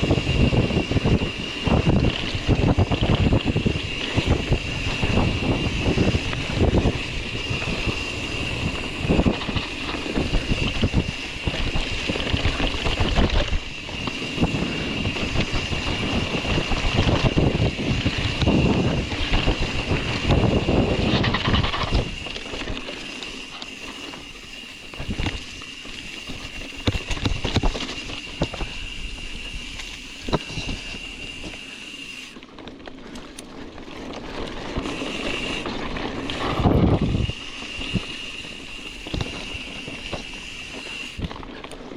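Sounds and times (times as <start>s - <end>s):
steady high-pitched buzz: 0.0s - 32.6s, 34.3s - 41.6s
bike rattling over bumps: 0.0s - 41.9s
wind buffeting microphone: 0.0s - 41.9s.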